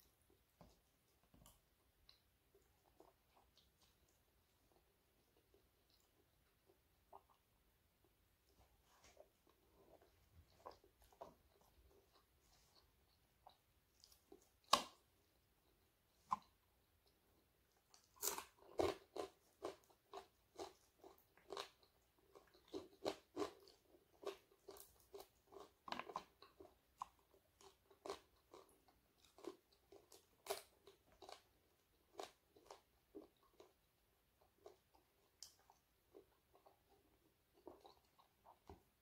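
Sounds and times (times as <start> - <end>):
crunching and chewing: 0.1 - 39.0.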